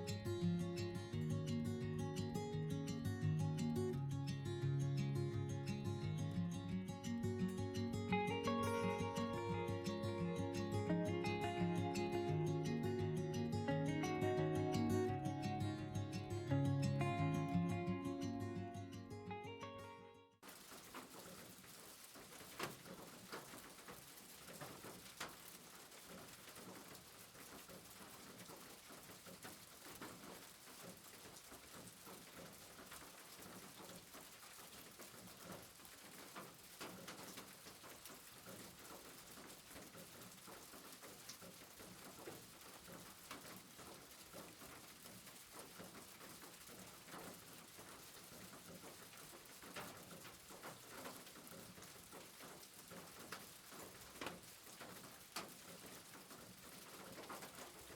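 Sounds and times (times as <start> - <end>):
faint rain pattering: 0.0 - 19.4, 20.4 - 57.9.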